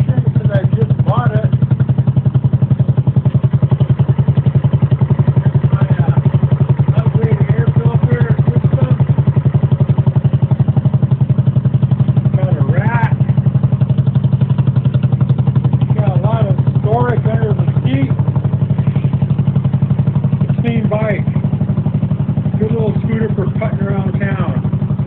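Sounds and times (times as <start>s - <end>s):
scooter engine idling: 0.0s - 25.0s.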